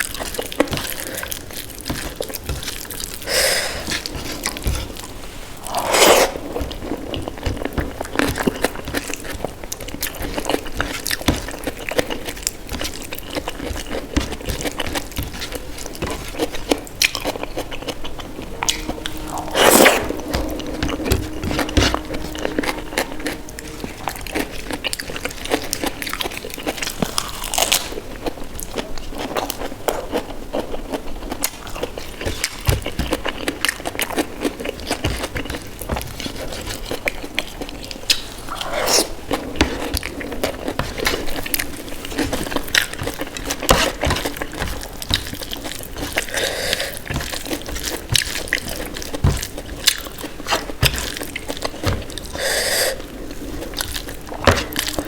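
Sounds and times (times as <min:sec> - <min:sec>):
chewing and biting food: 0:00.0 - 0:20.6, 0:23.4 - 0:52.4, 0:53.0 - 0:55.0.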